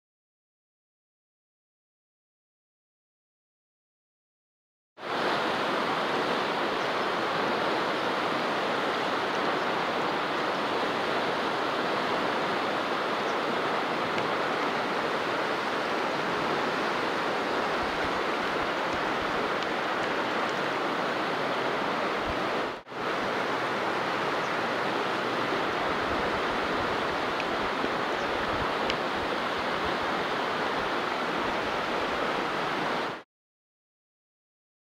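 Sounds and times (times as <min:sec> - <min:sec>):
river rushing over stones: 0:05.0 - 0:33.2.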